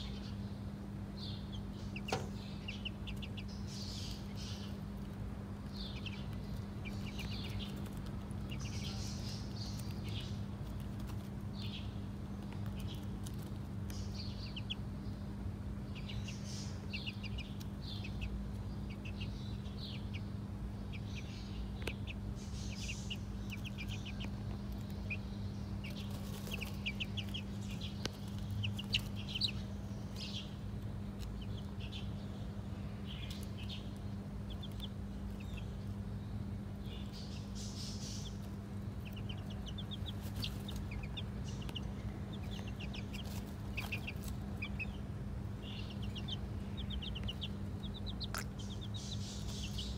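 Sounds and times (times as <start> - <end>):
chicks peeping: 0.0 - 49.9
steady low hum: 0.0 - 49.9.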